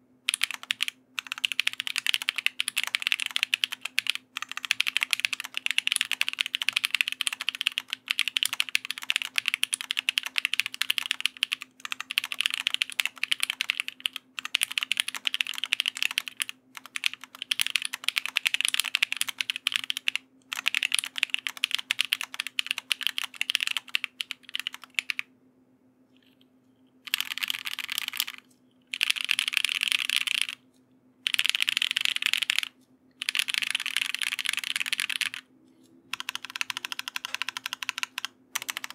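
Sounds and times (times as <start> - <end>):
mechanical keyboard typing: 0.3 - 25.3, 27.1 - 30.6, 31.2 - 35.5, 36.1 - 38.9.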